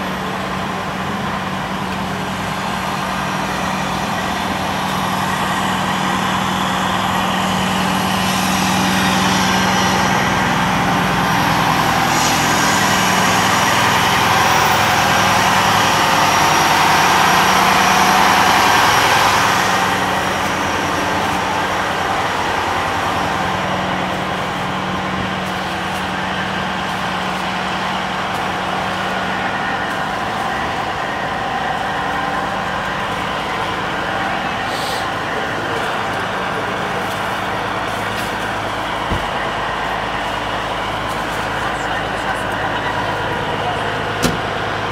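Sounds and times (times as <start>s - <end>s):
broad noise: 0.0s - 44.9s
fire truck engine humming: 0.0s - 44.9s.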